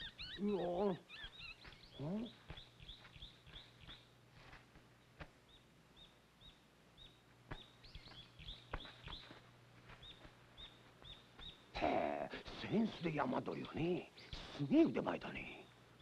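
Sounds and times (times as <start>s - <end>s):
faint bird chirps: 0.0s - 4.1s, 5.5s - 16.0s.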